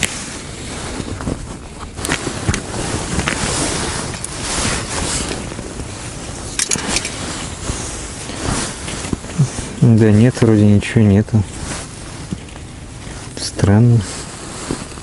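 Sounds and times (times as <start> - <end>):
jacket rustling: 0.0 - 15.0.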